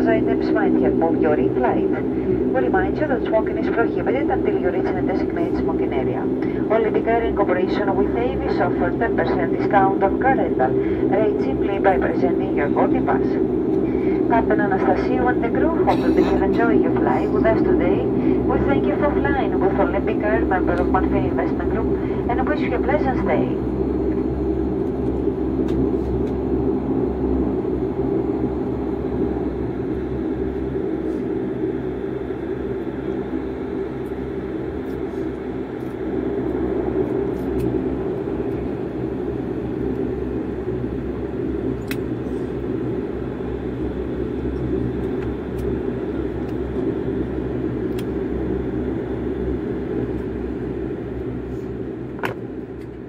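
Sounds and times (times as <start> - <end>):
propeller drone: 0.0 - 53.0.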